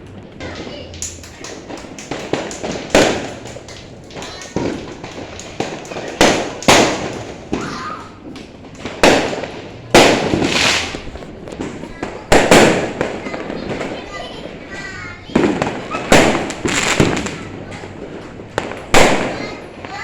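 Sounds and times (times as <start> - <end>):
fireworks bangs: 0.0 - 20.0
fireworks pops and crackles: 0.0 - 20.0.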